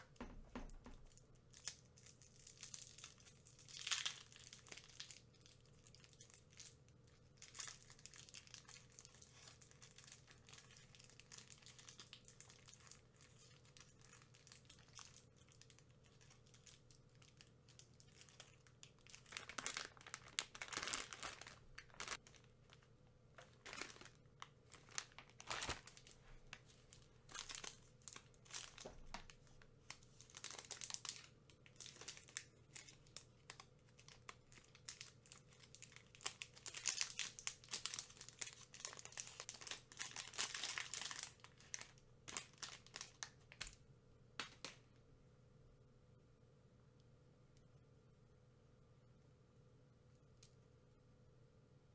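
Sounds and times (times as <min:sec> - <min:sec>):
plastic wrappers crinkling: 0:00.0 - 0:43.8.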